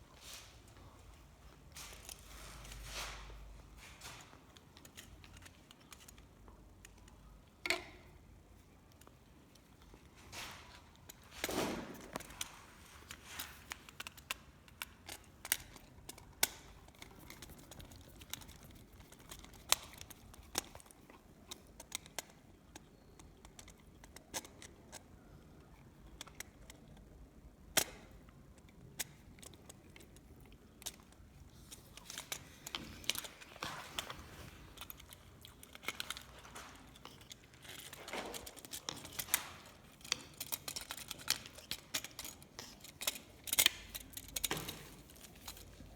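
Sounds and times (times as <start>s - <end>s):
small tools clicking and tapping: 1.1s - 11.3s, 12.1s - 27.1s, 27.7s - 45.9s.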